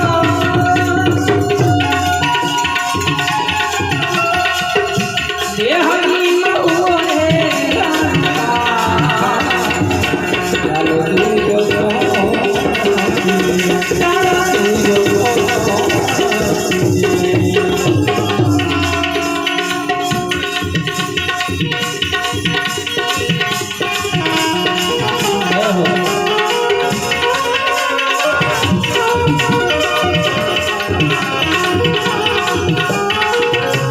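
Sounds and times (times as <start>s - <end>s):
harmonium chords and melody: 0.0s - 33.9s
tabla rhythm: 0.0s - 33.9s.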